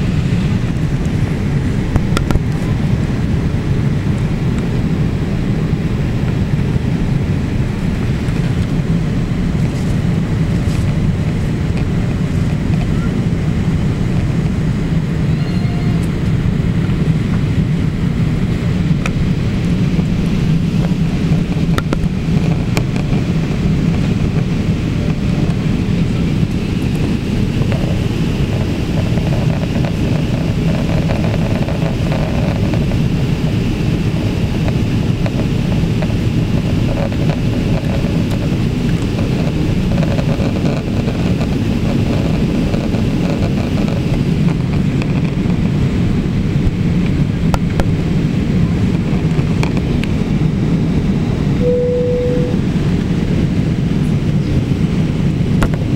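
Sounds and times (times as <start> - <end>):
airplane cabin engine rumble: 0.0 - 55.9
faint steady whine: 0.0 - 55.9.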